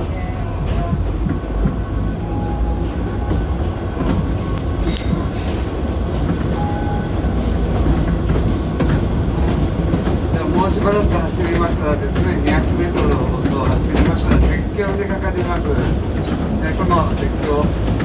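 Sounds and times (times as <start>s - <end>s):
train wheels rumbling on rail: 0.0s - 18.0s
wheel clacks: 3.2s - 18.0s.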